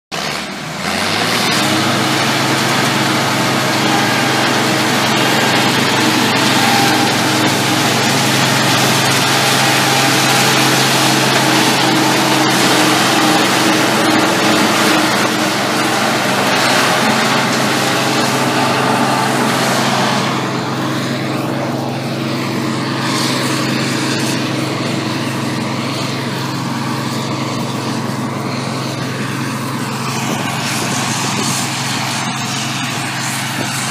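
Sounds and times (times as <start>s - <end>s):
farm machinery engine hum: 0.1s - 33.9s.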